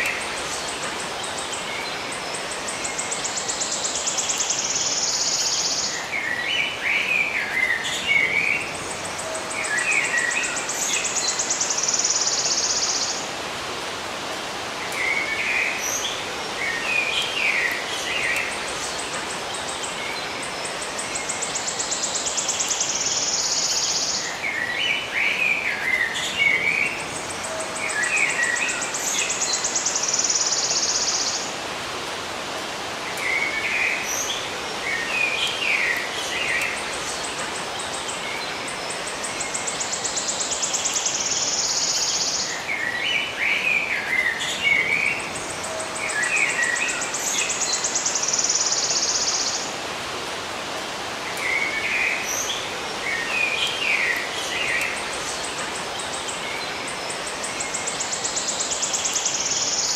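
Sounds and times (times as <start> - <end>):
outdoor ambience hiss: 0.0 - 59.9.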